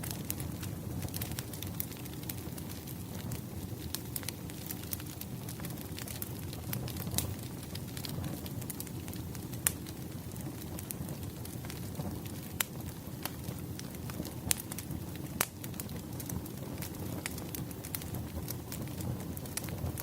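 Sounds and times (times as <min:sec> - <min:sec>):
campfire burning with low rush: 0:00.0 - 0:20.0
crackles and pops of logs: 0:00.0 - 0:20.0.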